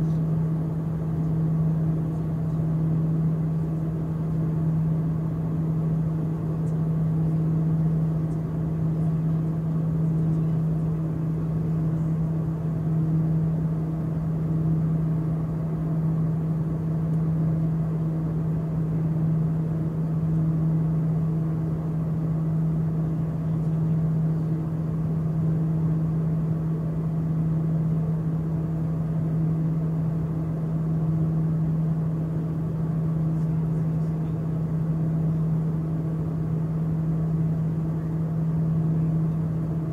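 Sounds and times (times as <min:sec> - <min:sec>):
propeller airplane cabin drone: 0:00.0 - 0:39.9.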